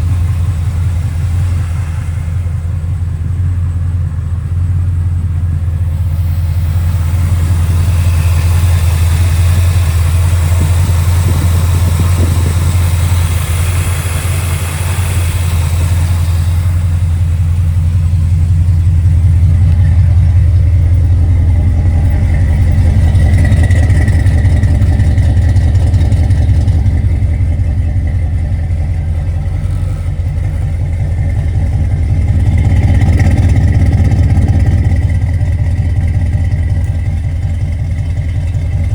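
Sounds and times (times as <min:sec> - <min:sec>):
car engine idling deep rumble: 0:00.0 - 0:38.9.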